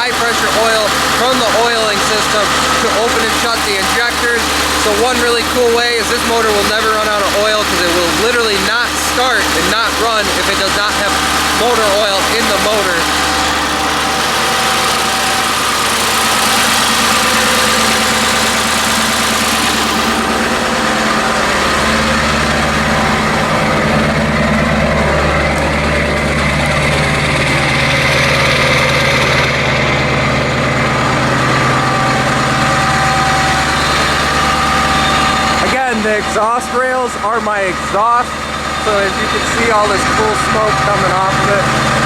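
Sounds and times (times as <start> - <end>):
diesel engine idling: 0.0 - 42.0.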